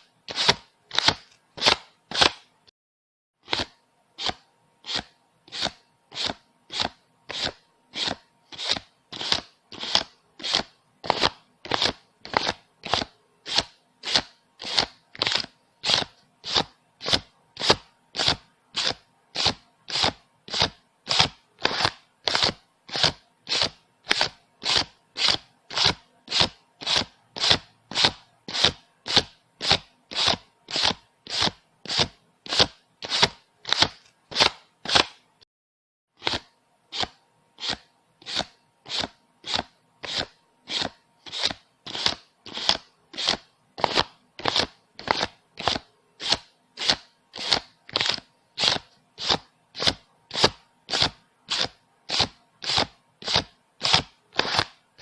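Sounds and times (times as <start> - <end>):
banknotes being counted by hand: 0.3 - 2.5, 3.4 - 35.2, 36.2 - 54.9.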